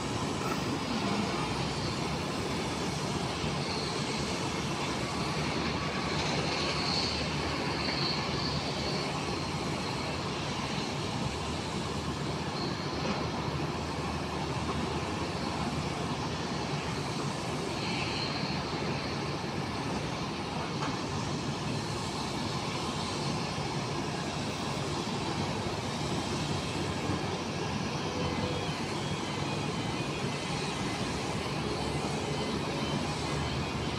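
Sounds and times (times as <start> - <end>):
distant jet engine noise: 0.0 - 33.9
faint high whine: 0.0 - 33.9.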